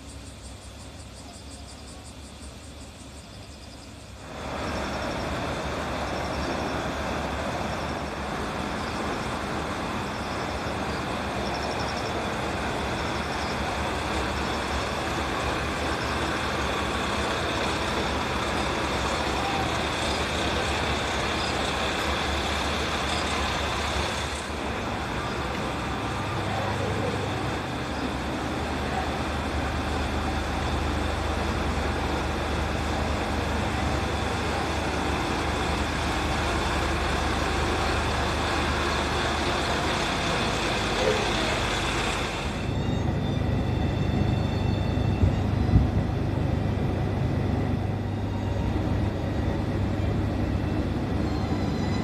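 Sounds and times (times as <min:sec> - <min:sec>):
diesel railcar engine idling: 0:00.0 - 0:52.0.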